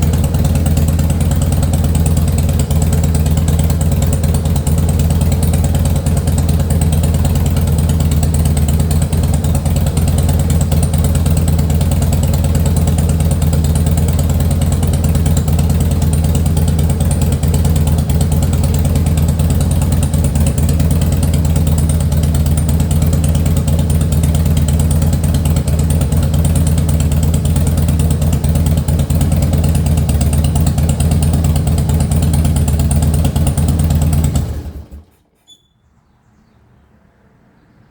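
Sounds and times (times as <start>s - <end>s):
motorcycle engine idling: 0.0s - 36.1s.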